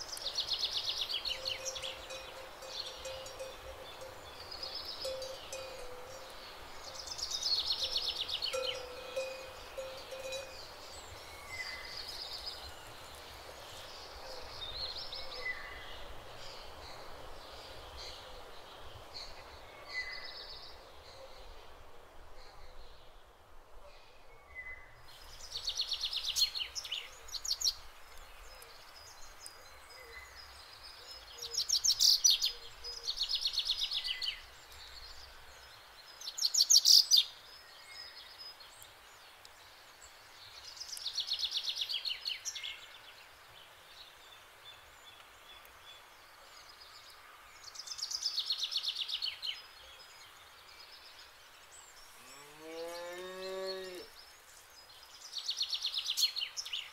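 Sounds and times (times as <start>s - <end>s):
faint outdoor background noise: 0.0s - 56.9s.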